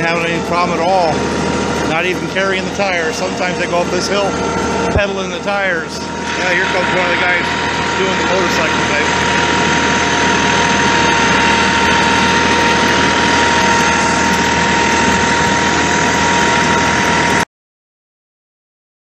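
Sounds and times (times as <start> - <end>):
tractor diesel engine running: 0.0 - 17.4
steady whine: 0.0 - 17.5.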